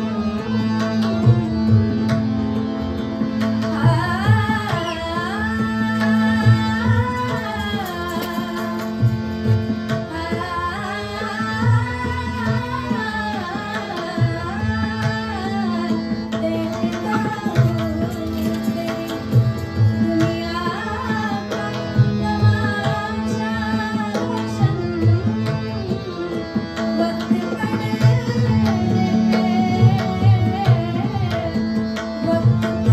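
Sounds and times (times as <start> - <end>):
tabla playing: 0.0 - 32.9
woman singing: 3.6 - 9.2, 9.9 - 32.9.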